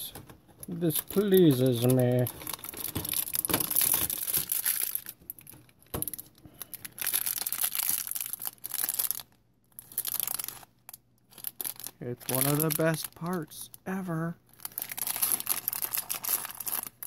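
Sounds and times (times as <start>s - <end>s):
plastic bag crinkling: 0.7s - 13.5s, 14.4s - 17.0s.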